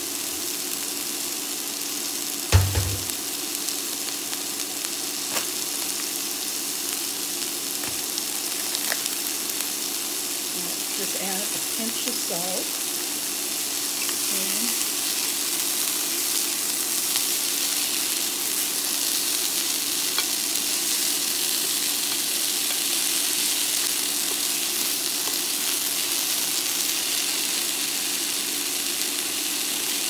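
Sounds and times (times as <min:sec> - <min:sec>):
peas sizzling in butter: 0:00.0 - 0:30.0.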